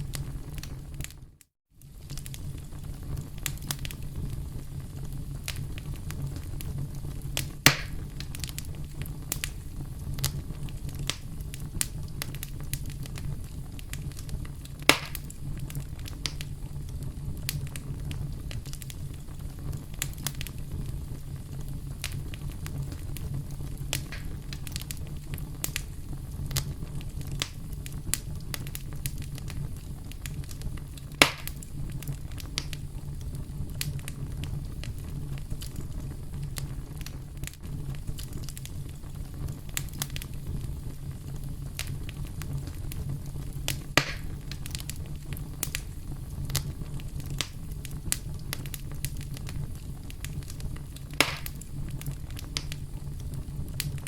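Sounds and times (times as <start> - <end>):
campfire crackling: 0.0 - 54.0
loud fire pops: 0.0 - 54.0.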